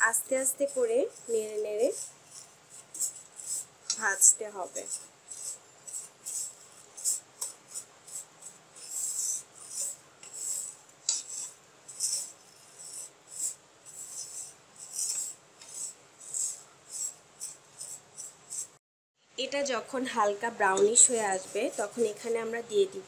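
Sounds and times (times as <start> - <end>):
wooden spoon scraping in pan: 0.0 - 18.8, 20.7 - 22.6.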